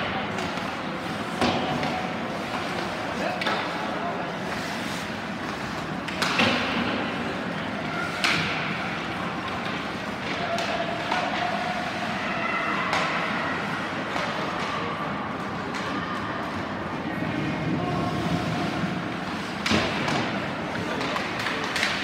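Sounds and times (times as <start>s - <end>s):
arena crowd hum: 0.0s - 22.0s.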